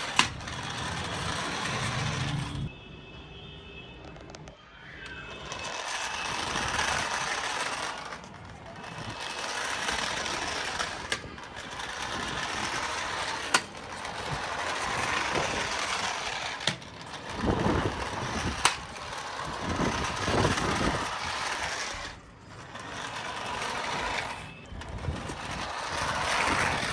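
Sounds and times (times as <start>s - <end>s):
toy car electric motor whirring: 0.0s - 2.7s, 4.7s - 26.9s.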